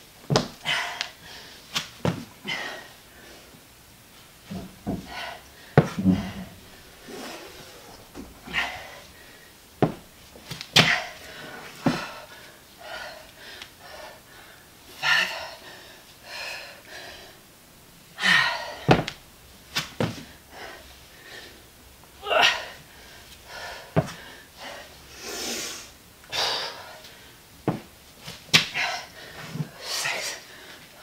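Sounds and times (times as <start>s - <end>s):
person breathing hard: 0.6s - 1.7s, 2.4s - 3.6s, 4.5s - 9.6s, 10.3s - 17.5s, 18.2s - 19.0s, 20.2s - 27.4s, 28.7s - 31.0s.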